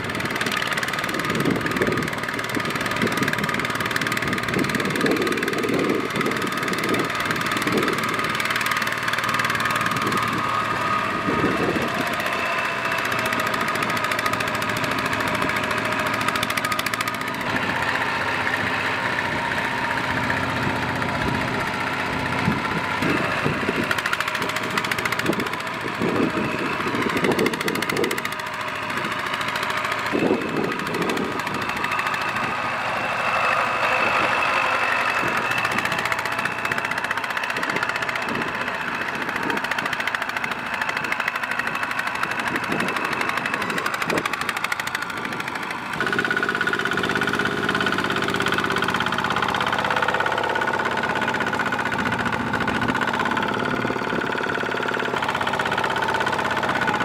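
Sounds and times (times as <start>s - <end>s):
diesel engine puttering: 0.0s - 57.0s.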